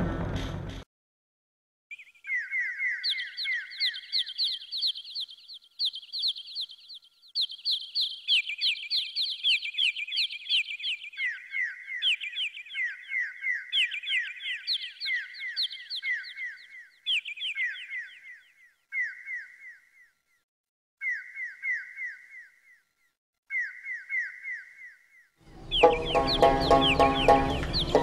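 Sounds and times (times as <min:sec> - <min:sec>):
small birds chirping: 0:01.9 - 0:20.4, 0:21.0 - 0:28.0.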